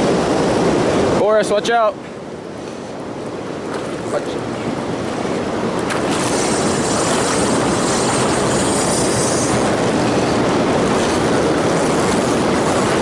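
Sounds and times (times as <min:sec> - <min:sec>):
river water rushing through rapids: 0:00.0 - 0:13.0.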